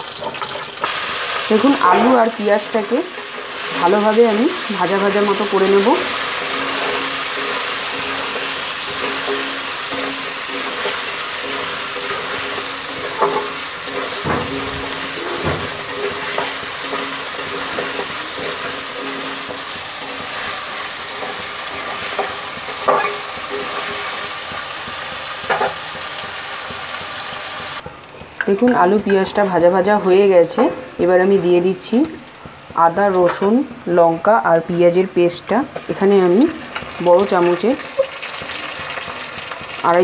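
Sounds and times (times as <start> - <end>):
potatoes sizzling in hot oil: 0.0 - 40.0
spatula scraping and knocking pan: 0.2 - 33.6.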